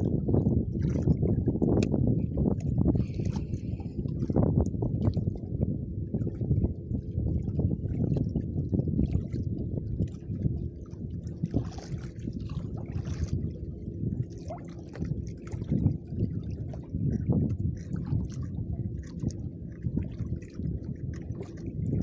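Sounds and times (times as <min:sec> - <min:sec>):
constant low rumble: 0:00.0 - 0:22.0
water lapping against boat hull: 0:00.0 - 0:22.0.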